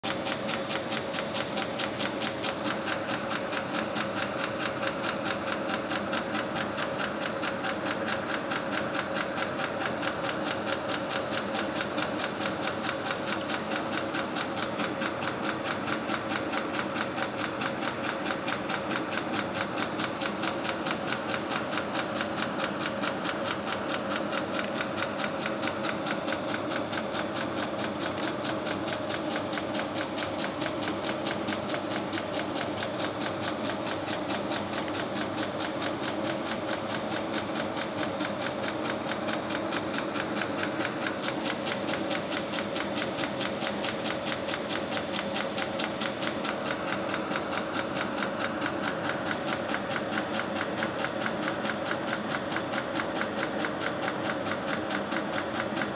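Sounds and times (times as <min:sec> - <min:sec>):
fast mechanical clatter: 0:00.0 - 0:55.9
motor hum: 0:00.0 - 0:55.9.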